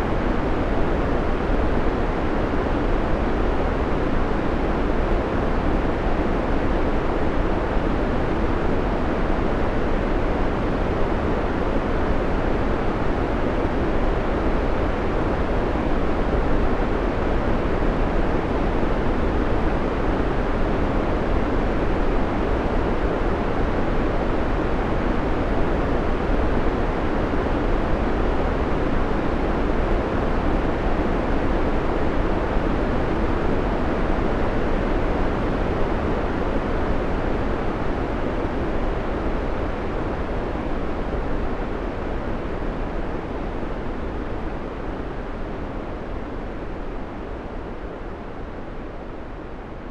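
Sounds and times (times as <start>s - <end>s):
deep white noise hiss: 0.0s - 49.9s.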